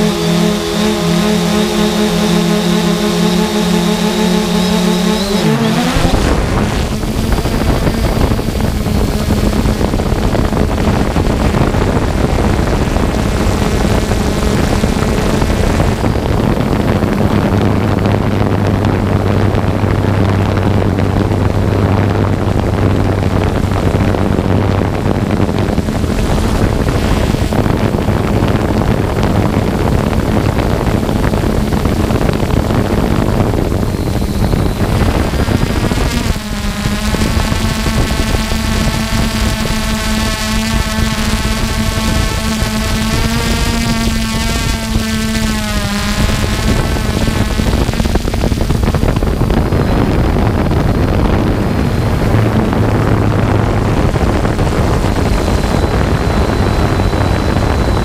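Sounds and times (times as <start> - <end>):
deeper hum: 0.0 - 58.0
drone motors humming: 0.0 - 58.0
wind and propeller wash: 0.0 - 58.0.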